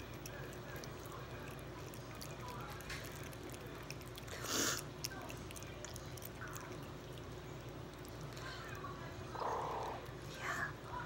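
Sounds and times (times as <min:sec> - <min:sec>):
primates chewing with wet clicks: 0:00.0 - 0:10.3.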